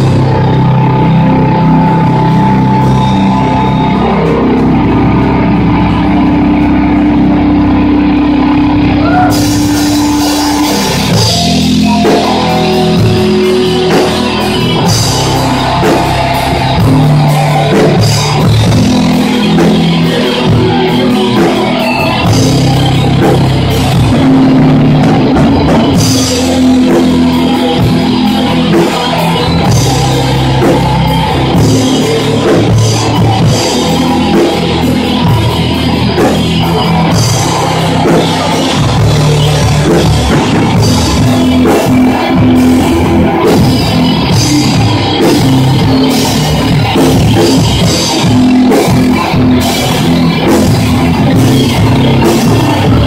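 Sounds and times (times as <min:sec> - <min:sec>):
heavy metal band playing: 0:00.0 - 0:53.0.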